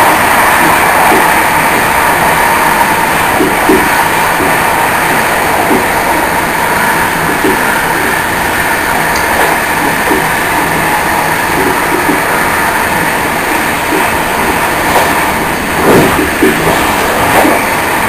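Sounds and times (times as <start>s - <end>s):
track clatter: 0.0s - 18.0s
train wheels rumbling on rail: 0.0s - 18.0s.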